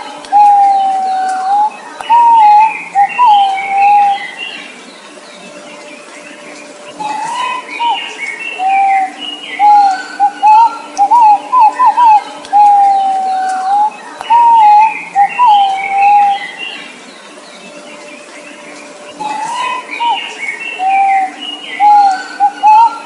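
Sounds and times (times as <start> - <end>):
pigeon whistled song: 0.0 - 4.7, 7.0 - 16.9, 18.6 - 23.0
small birds chirping: 0.0 - 23.0.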